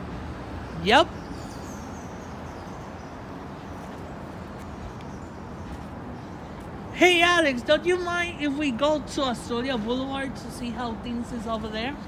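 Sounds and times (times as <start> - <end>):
city background hum: 0.0 - 12.0.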